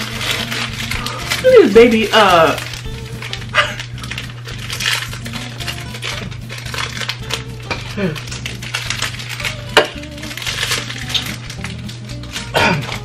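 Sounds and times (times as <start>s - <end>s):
background music with bass: 0.0s - 13.0s
napkins rustling: 0.0s - 13.0s.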